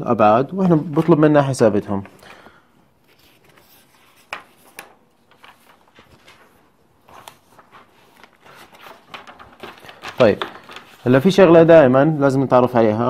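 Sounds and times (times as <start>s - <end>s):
paper rustling: 0.6s - 12.0s.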